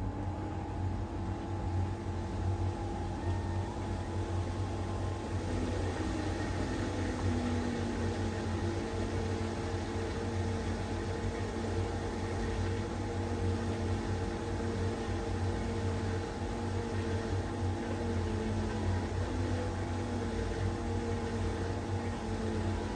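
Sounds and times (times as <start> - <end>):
tumble dryer humming: 0.0 - 22.9.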